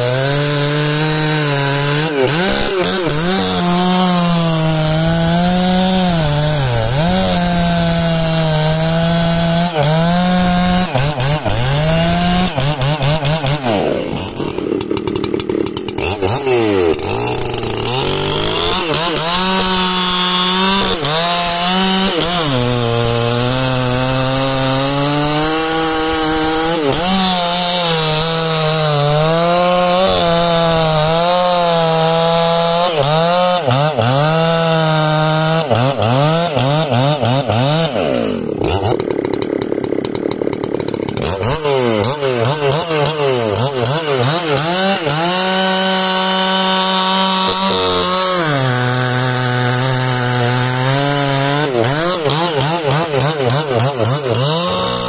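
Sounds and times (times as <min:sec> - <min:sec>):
chainsaw cutting through log: 0:00.0 - 0:55.0.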